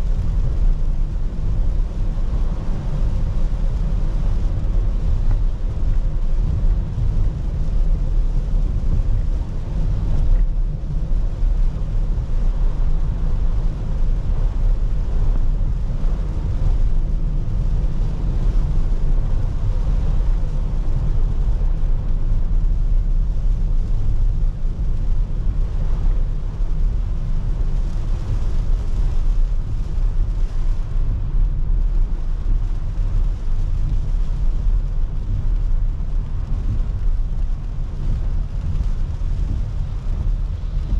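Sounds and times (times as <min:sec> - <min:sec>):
car engine and road rumble: 0:00.0 - 0:40.9
rain hiss: 0:00.0 - 0:40.9
tyres on wet road: 0:00.0 - 0:40.9.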